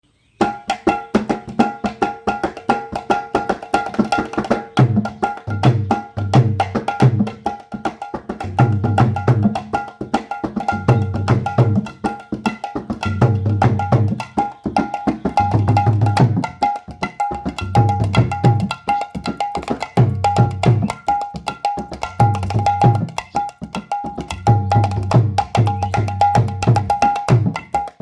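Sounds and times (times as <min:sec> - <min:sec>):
hand drum treble strokes: 0:00.4 - 0:28.0.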